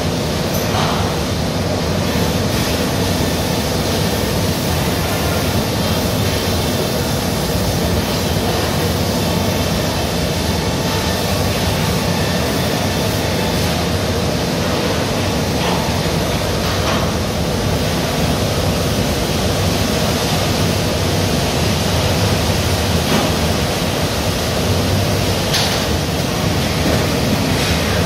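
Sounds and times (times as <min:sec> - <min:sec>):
loud machinery noise: 0:00.0 - 0:28.0
ventilation noise: 0:00.0 - 0:28.0.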